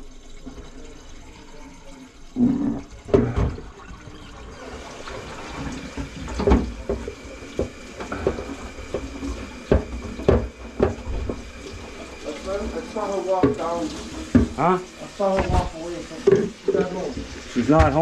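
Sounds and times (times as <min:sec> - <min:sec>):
running water rushing: 0:00.0 - 0:18.0
water splashing and gurgling in sink: 0:00.0 - 0:18.0.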